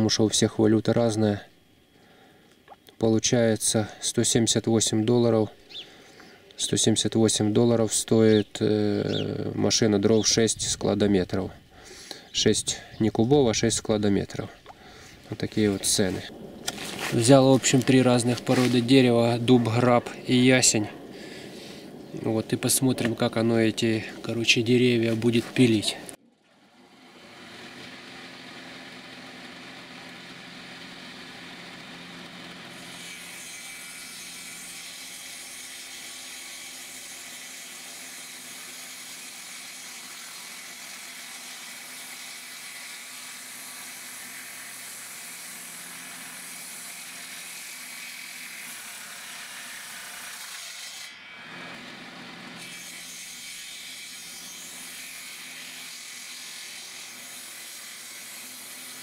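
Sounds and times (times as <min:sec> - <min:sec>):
circular saw cutting logs: 0:11.1 - 0:59.0.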